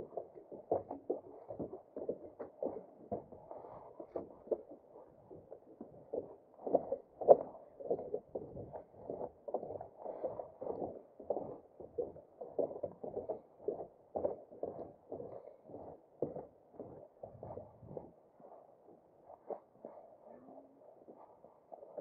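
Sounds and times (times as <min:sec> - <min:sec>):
muffled footsteps: 0:00.0 - 0:22.0.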